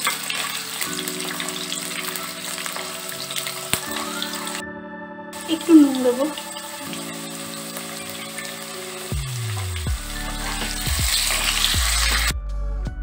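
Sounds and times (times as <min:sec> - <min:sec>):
potatoes sizzling in oil: 0:00.0 - 0:04.6, 0:05.4 - 0:12.3.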